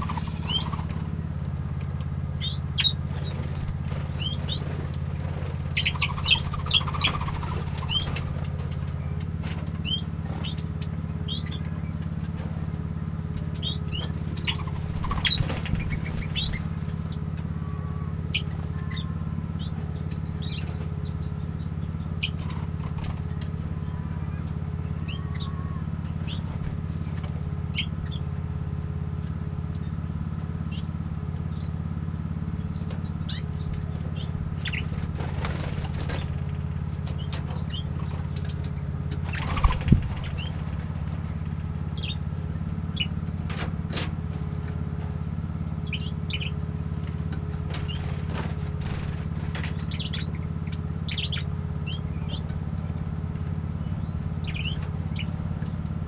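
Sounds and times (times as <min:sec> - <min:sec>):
small birds chirping: 0:00.0 - 0:28.8, 0:29.6 - 0:56.0
steady low hum: 0:00.0 - 0:56.0.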